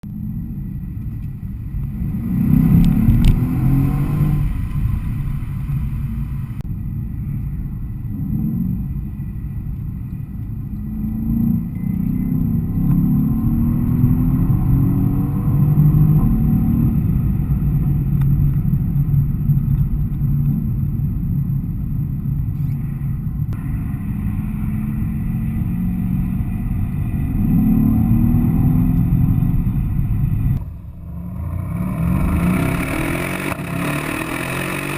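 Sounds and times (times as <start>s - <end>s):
car engine accelerating hard: 0.0s - 6.6s, 10.1s - 20.7s, 23.5s - 34.9s.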